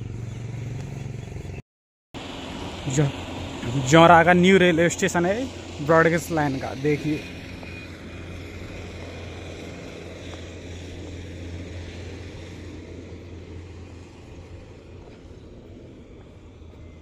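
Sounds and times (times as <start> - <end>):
distant engine droning: 0.0 - 1.6, 2.2 - 17.0.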